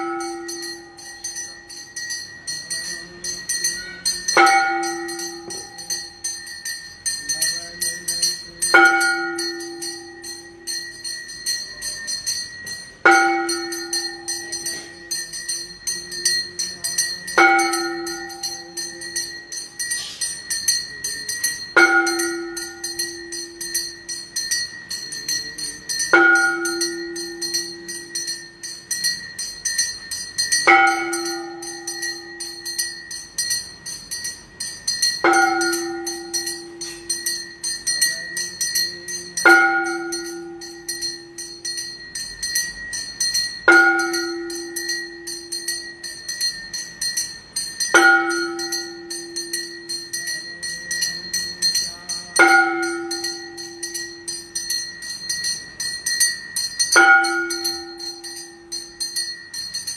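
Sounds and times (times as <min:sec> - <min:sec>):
large bell strokes ringing: 0:00.0 - 0:59.9
small hand bell rung rapidly: 0:00.0 - 0:59.9.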